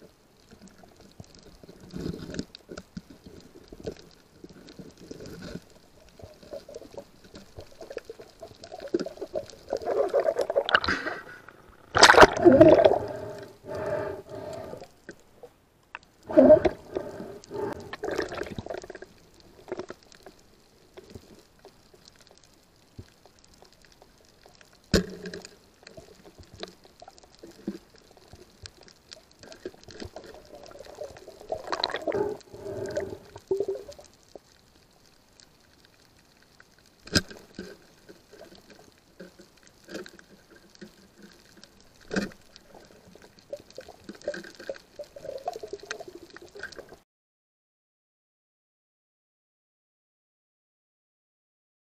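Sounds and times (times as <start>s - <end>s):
underwater bubbling and gurgling: 0.0s - 47.0s.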